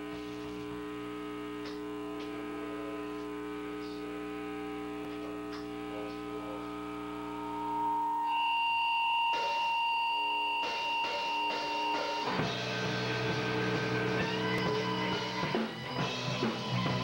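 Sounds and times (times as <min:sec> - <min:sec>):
electric amplifier hum: 0:00.0 - 0:17.0
higher steady tone: 0:00.8 - 0:17.0.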